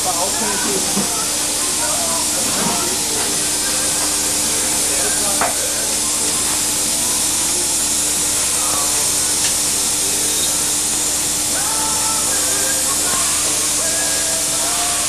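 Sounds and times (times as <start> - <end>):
loud hiss: 0.0 - 15.0
steady hum: 0.0 - 15.0.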